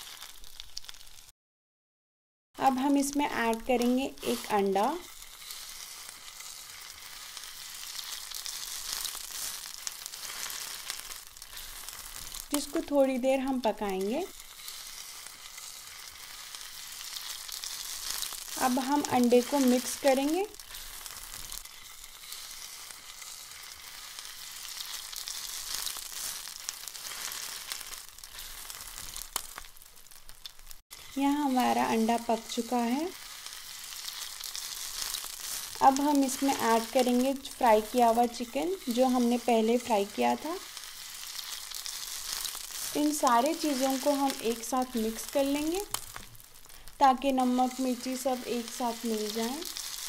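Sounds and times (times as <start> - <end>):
egg sizzling in a frying pan: 0.0 - 1.3, 2.6 - 50.0
sharp crackles: 0.0 - 1.3, 2.7 - 50.0.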